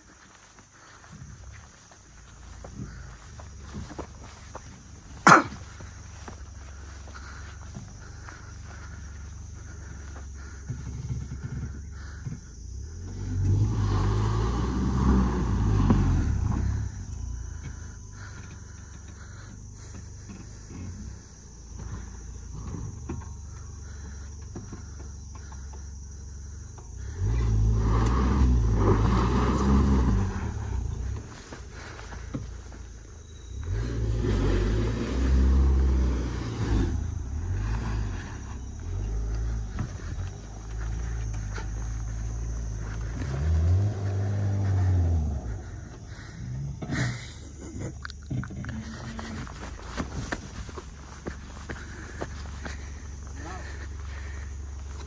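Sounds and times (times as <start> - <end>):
car engine running under load: 0.0 - 55.0.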